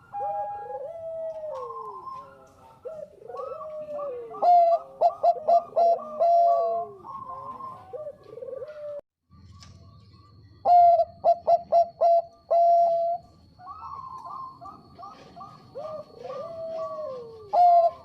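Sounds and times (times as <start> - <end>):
dove cooing: 0.0 - 9.0, 10.6 - 18.0.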